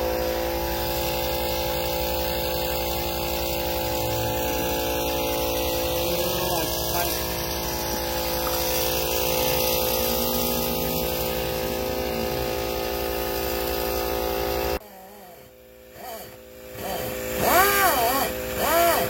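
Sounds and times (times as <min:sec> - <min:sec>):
motor buzzing: 0:00.0 - 0:19.0.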